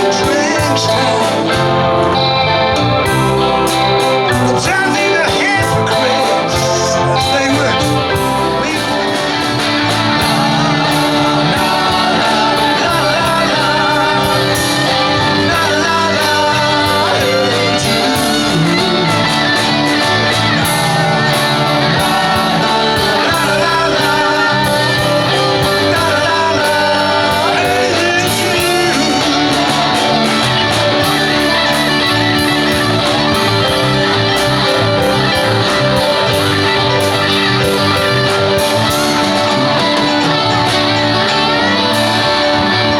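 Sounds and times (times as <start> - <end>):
bass guitar: 0.0 - 42.9
guitar: 0.0 - 42.9
wavering lead line: 0.0 - 42.9
drum beat: 3.1 - 42.1.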